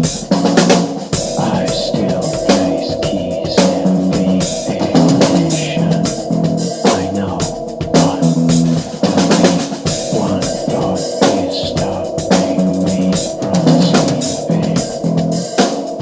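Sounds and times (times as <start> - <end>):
drum kit playing rock beat: 0.0 - 16.0
recorded rock song: 0.0 - 16.0.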